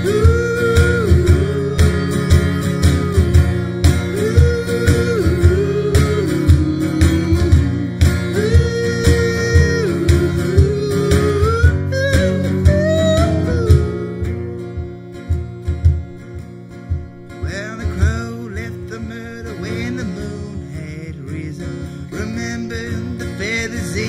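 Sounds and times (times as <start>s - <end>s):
man singing long notes: 0.0s - 16.4s, 17.4s - 24.0s
acoustic guitar strumming: 0.0s - 24.0s
cajon beat: 0.0s - 24.0s.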